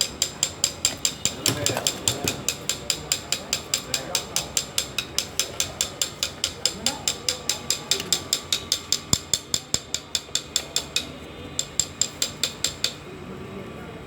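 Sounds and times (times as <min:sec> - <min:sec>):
rapid mechanical clicking: 0:00.0 - 0:13.1.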